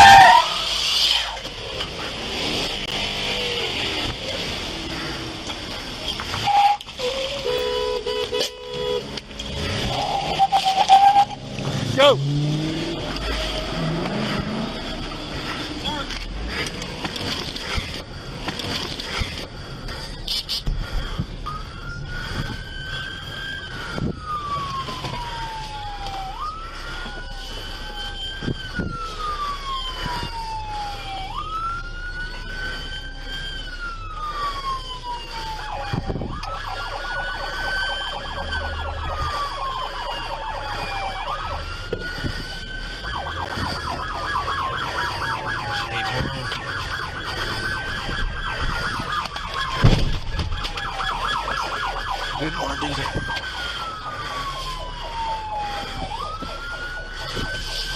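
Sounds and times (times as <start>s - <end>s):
police siren wailing: 0.0s - 57.9s
warbling siren: 0.0s - 57.9s.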